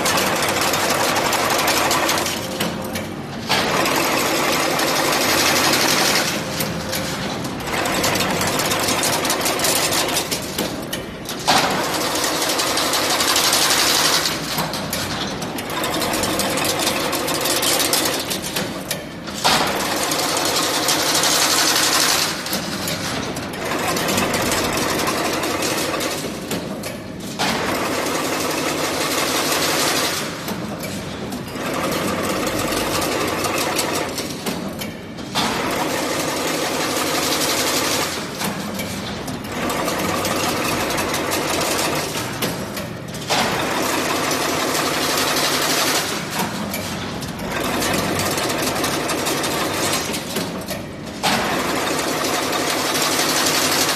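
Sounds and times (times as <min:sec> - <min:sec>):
workshop machine clattering: 0:00.0 - 0:53.9.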